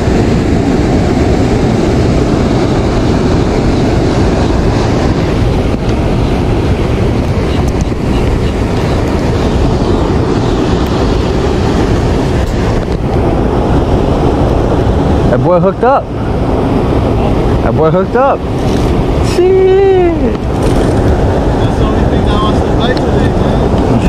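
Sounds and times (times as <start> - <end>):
flowing canal water: 0.0 - 24.0
wind buffeting microphone: 0.0 - 24.0.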